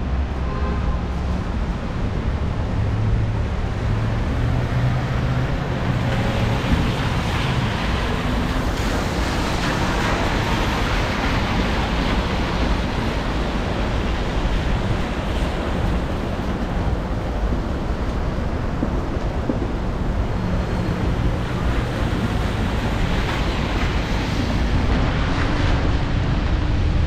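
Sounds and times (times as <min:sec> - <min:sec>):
tyres on a wet road: 0:00.0 - 0:27.0.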